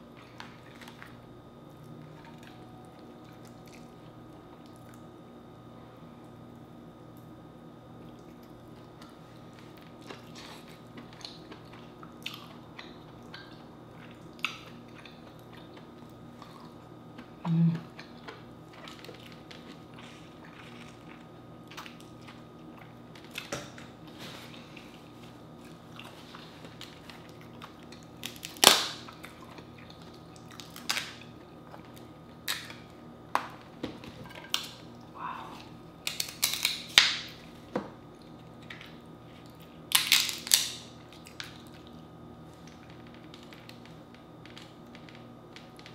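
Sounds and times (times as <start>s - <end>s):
faint low hum: 0.0s - 45.9s
chewing and smacking: 0.1s - 5.1s, 8.0s - 37.4s, 38.1s - 45.9s.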